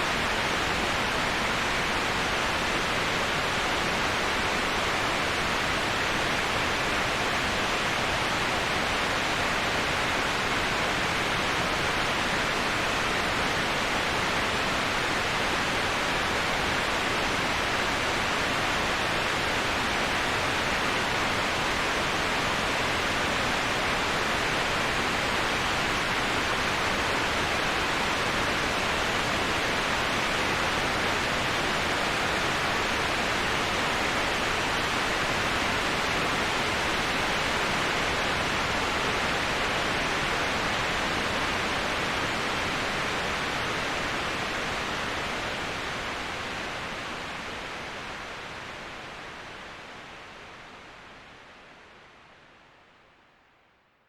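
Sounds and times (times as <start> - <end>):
waterfall rushing: 0.0 - 49.5.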